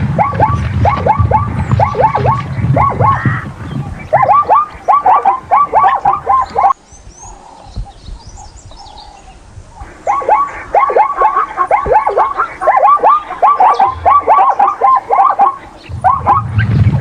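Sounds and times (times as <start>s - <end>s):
animal short falling calls: 0.0s - 6.8s, 9.8s - 17.0s
faint high bird chirps: 0.2s - 17.0s.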